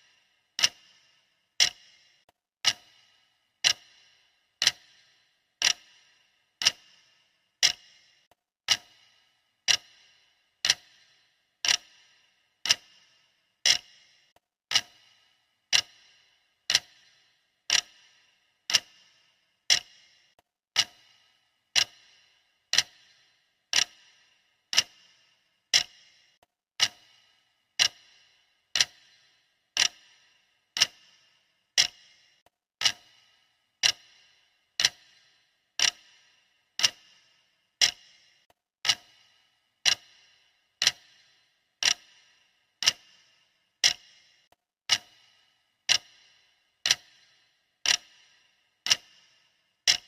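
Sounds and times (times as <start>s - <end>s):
clock ticking: 0.0s - 50.0s.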